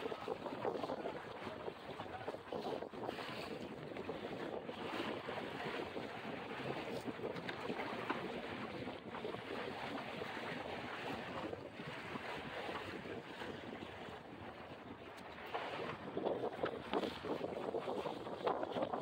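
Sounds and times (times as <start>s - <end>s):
water washing past hull: 0.0s - 19.0s
wind noise on microphone: 0.0s - 19.0s.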